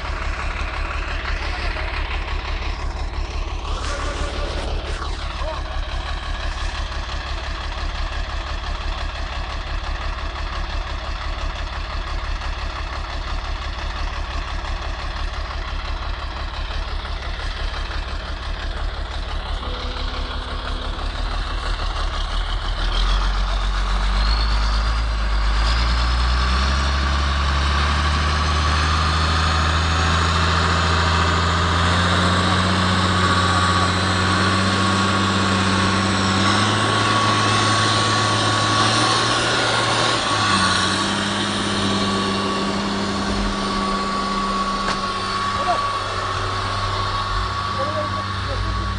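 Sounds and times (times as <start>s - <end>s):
vehicle engine throbbing: 0.0s - 48.9s.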